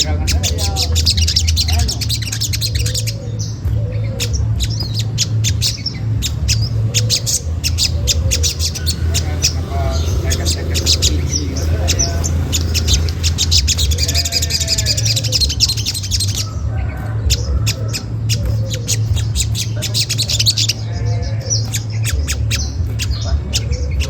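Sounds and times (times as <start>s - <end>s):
bird chip calls: 0.0s - 24.0s
steady low hum: 0.0s - 24.0s.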